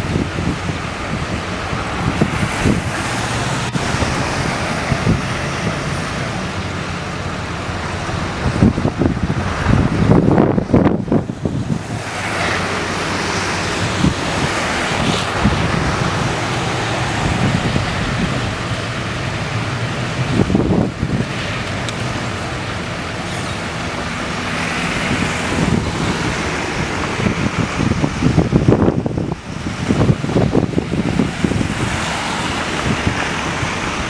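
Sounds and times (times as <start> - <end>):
tyres on wet road: 0.0 - 34.0
wind buffeting microphone: 0.0 - 34.0.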